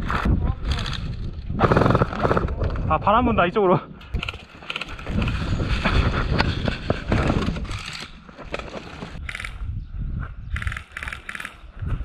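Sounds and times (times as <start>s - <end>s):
wind buffeting microphone: 0.0s - 8.1s, 9.1s - 12.0s.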